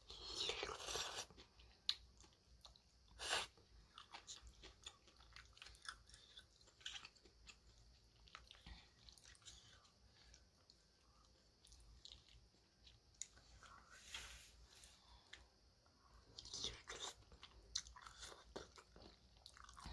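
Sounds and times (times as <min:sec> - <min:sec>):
chewing noodles: 0:00.1 - 0:13.5, 0:16.3 - 0:19.9.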